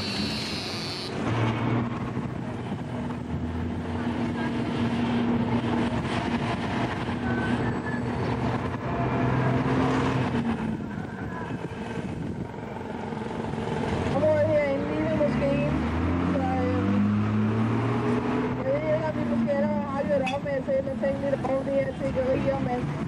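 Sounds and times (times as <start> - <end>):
city street traffic: 0.0 - 23.0
taxi engine drone: 0.0 - 23.0.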